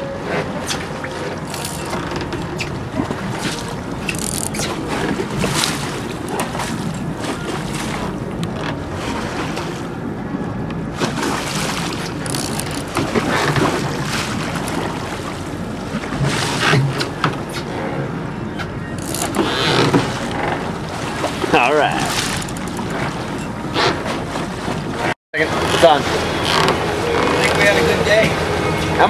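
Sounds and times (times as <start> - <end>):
water splashing: 0.0 - 10.0, 10.9 - 17.5, 19.0 - 28.2
boat engine running: 0.0 - 29.0.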